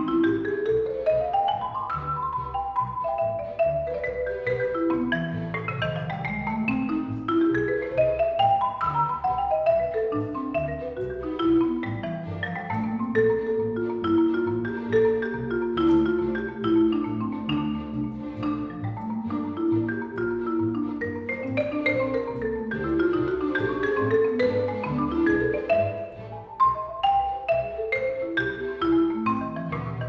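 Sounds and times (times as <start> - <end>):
marimba mallet runs: 0.0 - 30.0
orchestral accompaniment: 0.0 - 30.0.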